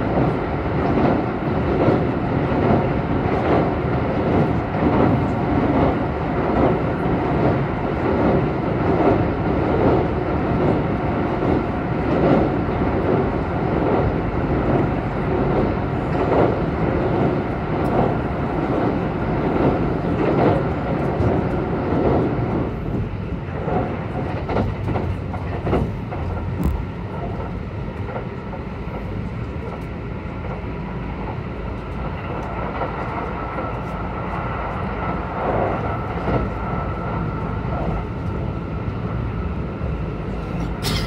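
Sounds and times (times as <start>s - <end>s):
train rumbling on a steel bridge: 0.0s - 41.0s
train running noise: 0.0s - 41.0s.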